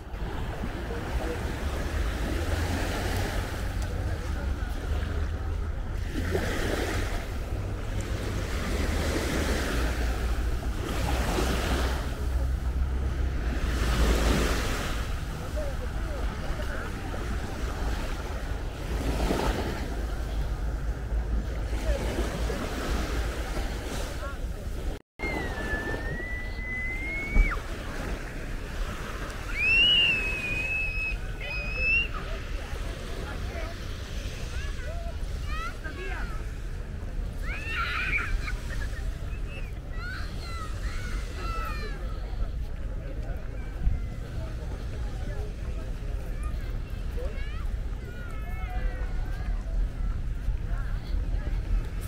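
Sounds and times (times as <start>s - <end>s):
small waves washing on shore: 0.0s - 52.0s.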